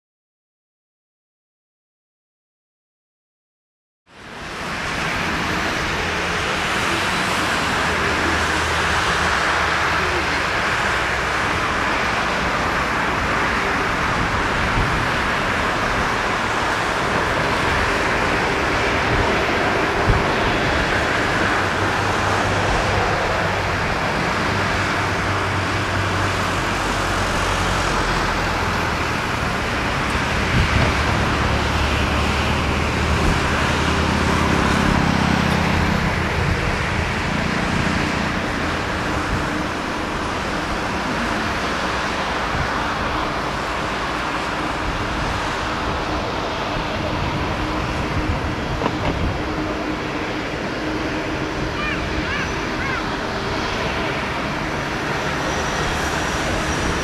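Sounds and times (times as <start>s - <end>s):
jet engines at taxi thrust: 4.1s - 57.0s.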